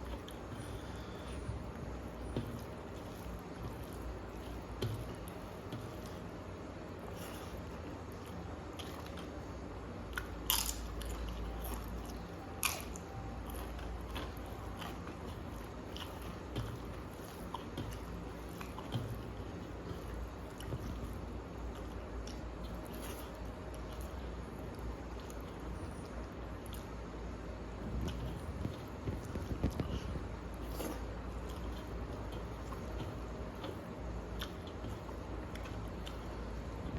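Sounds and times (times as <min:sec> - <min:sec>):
person chewing: 0:00.0 - 0:27.0, 0:27.8 - 0:36.9.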